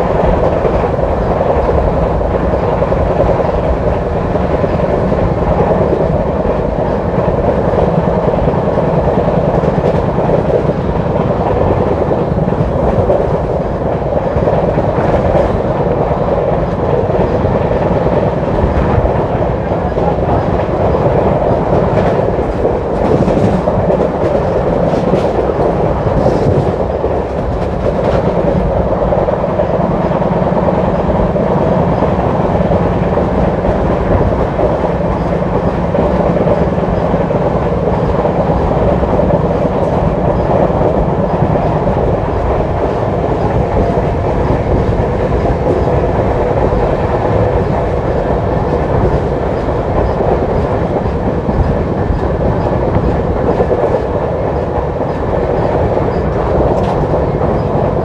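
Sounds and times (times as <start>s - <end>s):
sharp track clacks: 0.0s - 58.0s
train wheels rumbling on rails: 0.0s - 58.0s.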